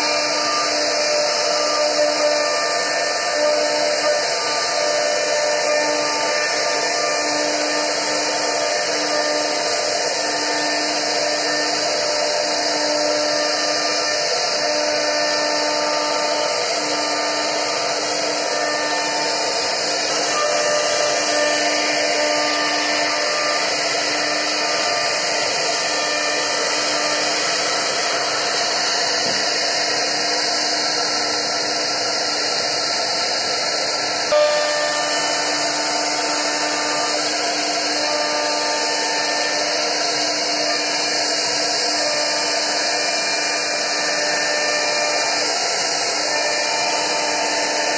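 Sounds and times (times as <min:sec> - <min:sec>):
router motor hum: 0:00.0 - 0:47.9
wood router cutting hiss: 0:00.0 - 0:47.9.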